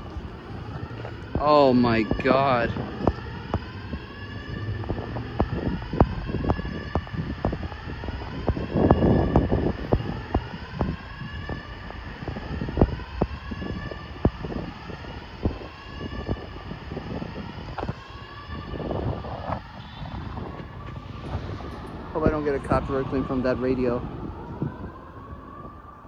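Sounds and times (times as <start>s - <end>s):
fire alarm whooping siren: 0.0s - 26.0s.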